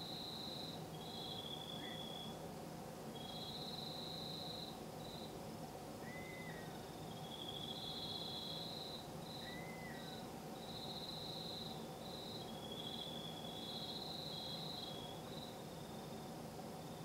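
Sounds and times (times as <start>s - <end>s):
night insects trilling: 0.0s - 2.4s, 3.0s - 17.0s.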